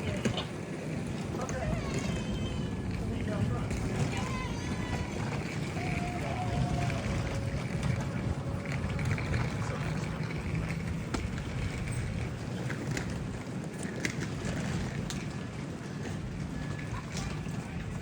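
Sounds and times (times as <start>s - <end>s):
diesel train rumbling: 0.0s - 18.0s.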